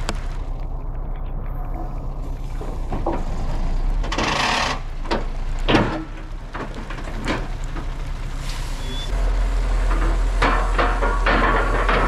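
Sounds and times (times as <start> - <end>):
logs knocking and scraping: 0.0 - 8.4, 9.7 - 12.0
truck engine running: 0.0 - 12.0.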